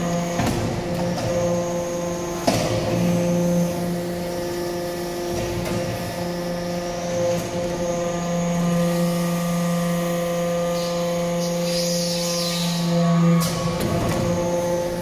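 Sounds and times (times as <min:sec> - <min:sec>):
hydraulic pump humming: 0:00.0 - 0:15.0.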